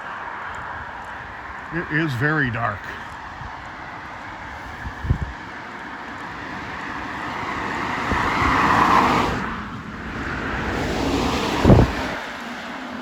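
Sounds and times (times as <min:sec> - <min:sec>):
cars passing on road: 0:00.0 - 0:13.0.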